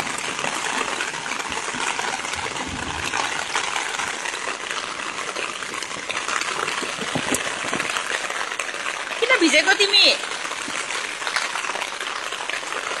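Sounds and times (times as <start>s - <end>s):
floodwater gushing: 0.0s - 13.0s.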